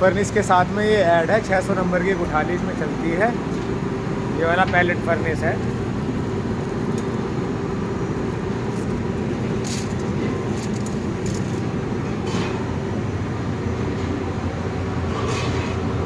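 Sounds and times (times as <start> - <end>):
furnace burner roaring: 0.0 - 16.0.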